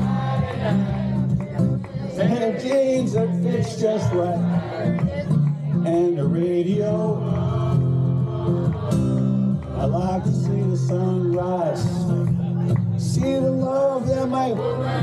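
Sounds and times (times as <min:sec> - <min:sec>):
man singing: 0:00.0 - 0:08.6, 0:09.6 - 0:15.0
guitar playing: 0:00.0 - 0:15.0.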